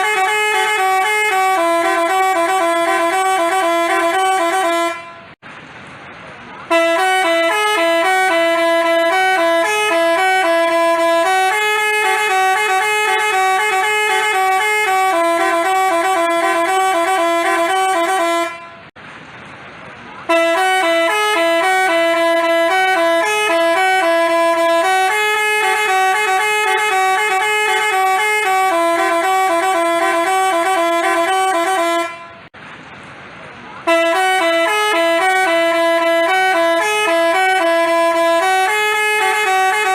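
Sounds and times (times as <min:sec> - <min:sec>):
multi-tone bus horn melody: 0:00.0 - 0:05.4, 0:06.6 - 0:19.0, 0:20.2 - 0:32.6, 0:33.8 - 0:39.9.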